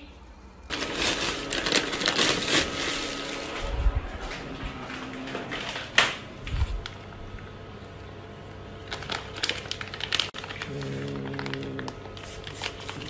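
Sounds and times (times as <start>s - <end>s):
plastic bag crinkling: 0.7s - 7.9s, 8.6s - 13.0s.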